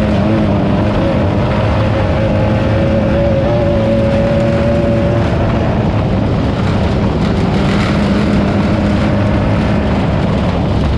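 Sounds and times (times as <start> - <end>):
race car engine running hard: 0.0 - 10.9
rough-ground noise: 0.0 - 10.9
wind rush: 0.0 - 10.9.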